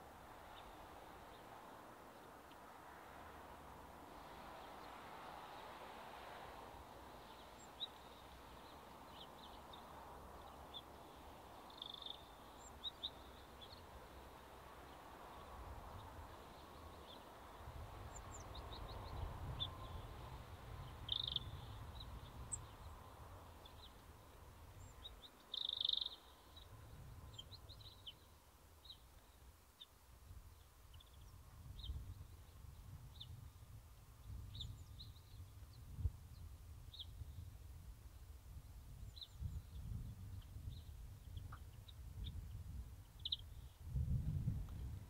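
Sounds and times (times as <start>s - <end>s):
songbirds chirping: 0.0s - 43.8s.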